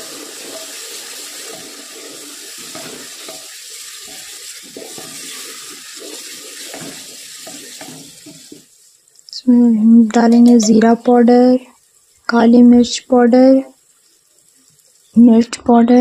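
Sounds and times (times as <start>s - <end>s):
wooden spoon stirring and scraping: 0.0s - 9.3s, 9.9s - 15.2s
masala sizzling in oil: 0.0s - 16.0s.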